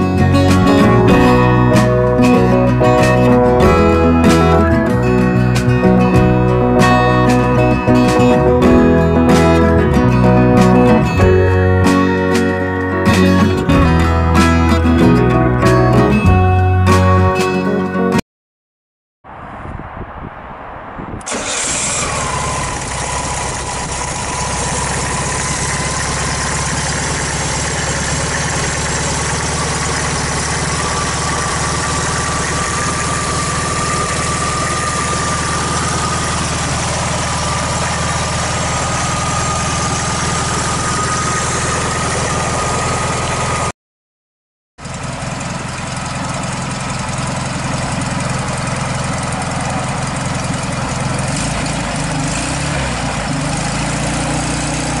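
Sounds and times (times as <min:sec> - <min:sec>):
car engine idling: 0:00.0 - 0:15.9, 0:21.3 - 0:43.7, 0:44.8 - 0:55.0.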